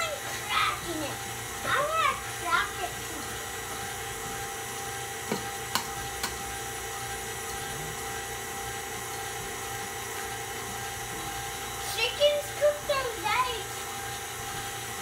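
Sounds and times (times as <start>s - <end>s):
stand mixer motor whirring: 0.0s - 15.0s.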